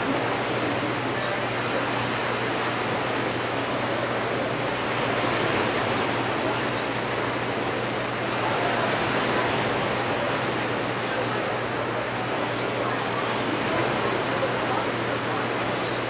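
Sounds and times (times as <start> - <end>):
small waves washing on beach: 0.0 - 16.0.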